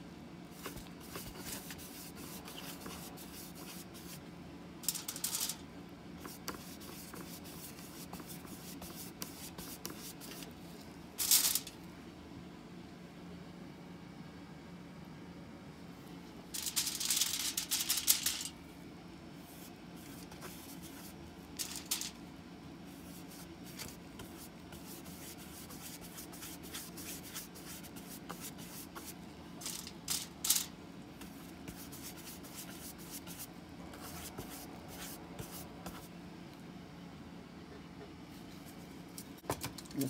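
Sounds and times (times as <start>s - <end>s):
faint hum: 0.0s - 40.0s.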